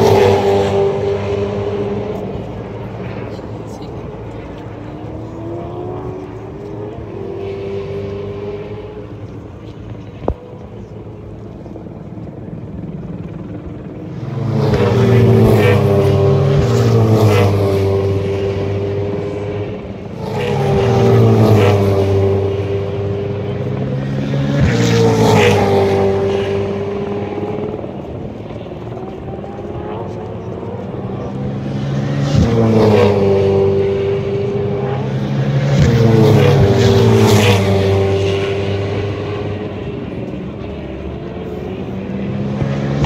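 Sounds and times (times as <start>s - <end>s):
race cars passing: 0.0s - 43.0s.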